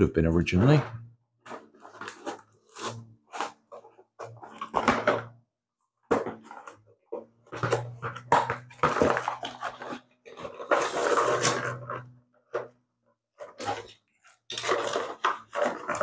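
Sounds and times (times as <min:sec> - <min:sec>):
cardboard scraping and rustling: 0:00.6 - 0:05.4, 0:06.1 - 0:12.8, 0:13.4 - 0:16.0.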